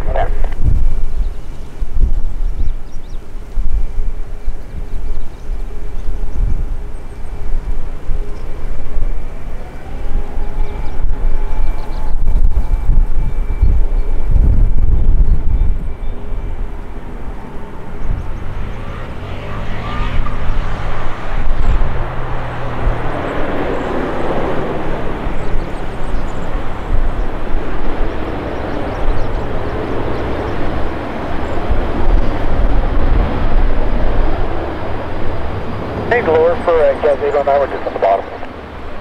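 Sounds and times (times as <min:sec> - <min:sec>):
jet engines passing: 0:00.0 - 0:39.0.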